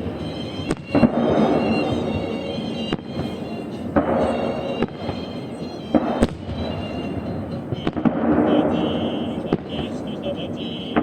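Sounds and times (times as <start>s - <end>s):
fireworks bursting with bangs: 0.0s - 11.0s
music playing: 0.0s - 11.0s.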